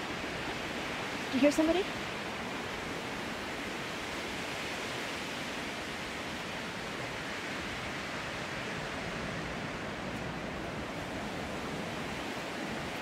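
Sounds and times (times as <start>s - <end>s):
strong wind through trees: 0.0s - 13.0s.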